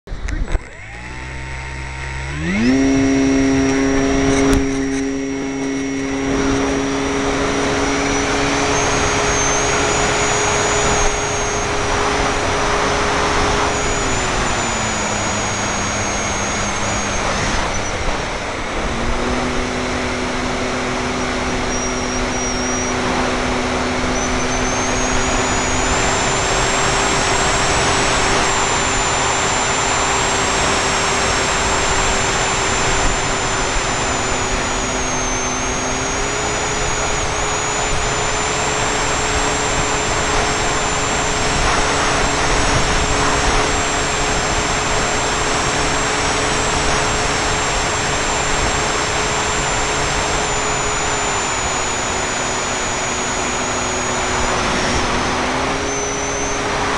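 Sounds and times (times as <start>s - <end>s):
electric motor whine: 0.1s - 56.9s.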